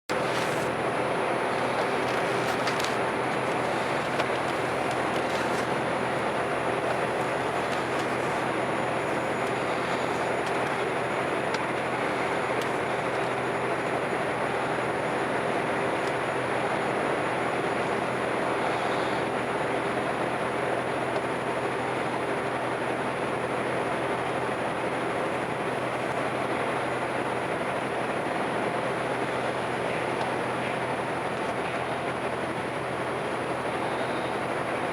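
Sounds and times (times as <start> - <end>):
ship engines droning: 0.0 - 34.9
constant low hum: 0.1 - 34.9.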